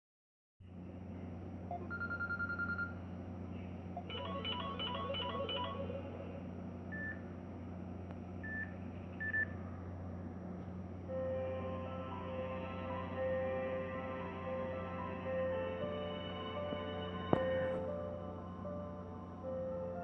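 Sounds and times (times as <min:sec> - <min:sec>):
steady low hum: 0:00.6 - 0:20.0.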